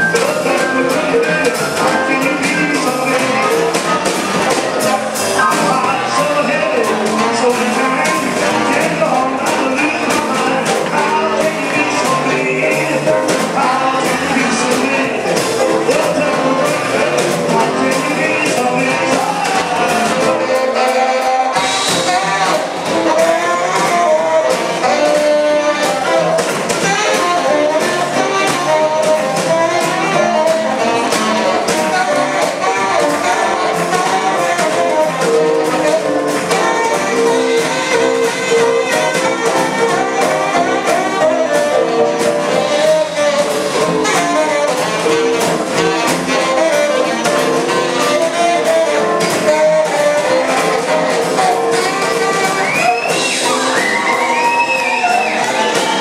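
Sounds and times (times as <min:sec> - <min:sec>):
rhythm and blues band playing: 0:00.0 - 0:56.0
saxophone solo: 0:00.0 - 0:56.0.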